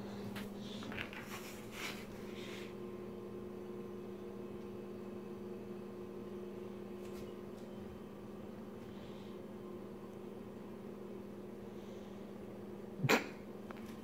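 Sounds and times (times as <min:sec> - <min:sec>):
appliance electrical hum: 0:00.0 - 0:14.0.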